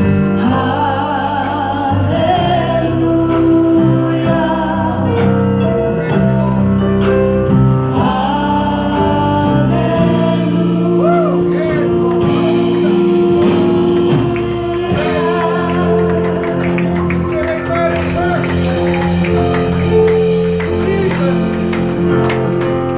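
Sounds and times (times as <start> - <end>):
person singing with vibrato: 0.0 - 22.2
long held instrument chords: 0.0 - 22.9.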